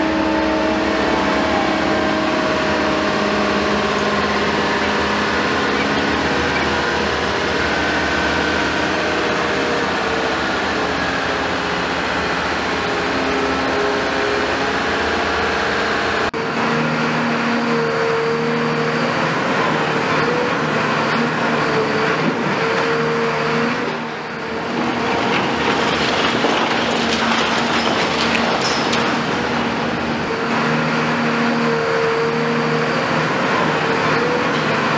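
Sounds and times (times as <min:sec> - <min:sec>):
excavator diesel engine working: 0:00.0 - 0:34.9.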